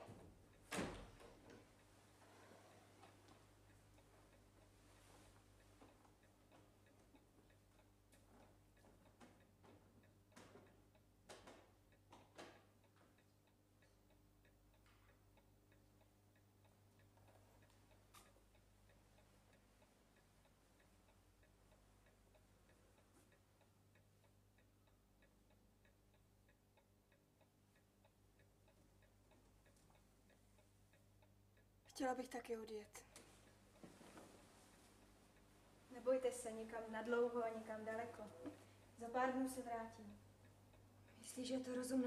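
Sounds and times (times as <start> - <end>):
clock ticking: 0.0 - 42.0.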